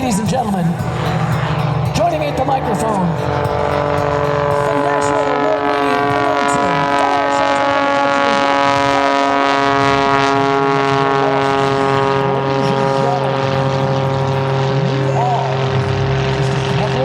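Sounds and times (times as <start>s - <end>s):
faint voices: 0.0s - 17.0s
propeller aircraft engine droning: 0.0s - 17.0s.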